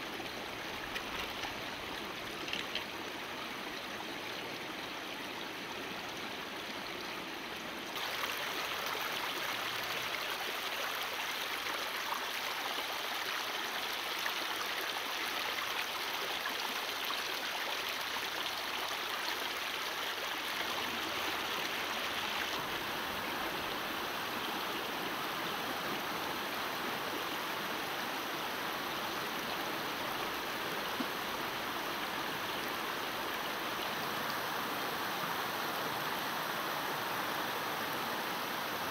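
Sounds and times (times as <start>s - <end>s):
river running over stones: 0.0s - 38.9s.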